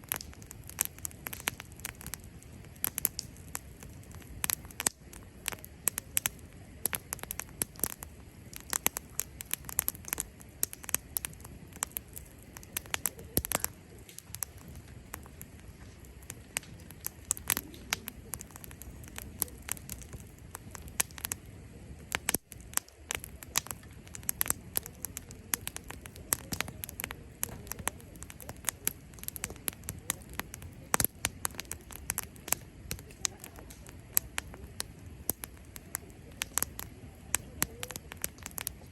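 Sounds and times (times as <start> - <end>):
campfire crackling and popping: 0.0 - 38.9
fire hissing: 0.0 - 38.9.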